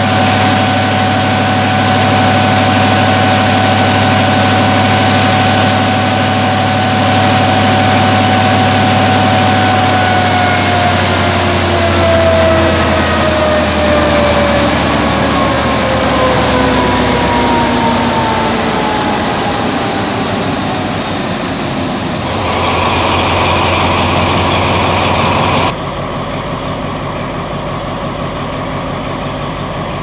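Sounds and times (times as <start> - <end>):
approaching diesel locomotive: 0.0 - 30.0
diesel locomotive engine running: 0.0 - 30.0.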